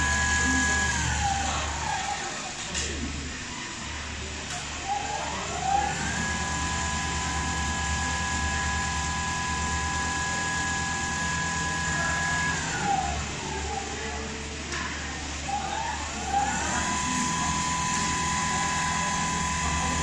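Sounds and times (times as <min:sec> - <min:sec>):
sewing machine motor whine: 0:00.0 - 0:02.8, 0:03.5 - 0:20.0.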